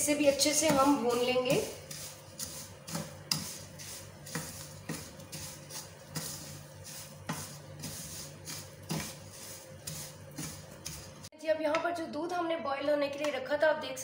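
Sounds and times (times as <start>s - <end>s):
spatula scraping a pan: 0.0s - 11.3s.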